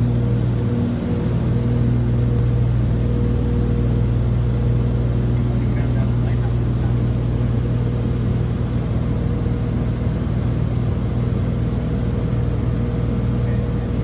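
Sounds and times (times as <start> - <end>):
aircraft engines droning in cabin: 0.0 - 14.0.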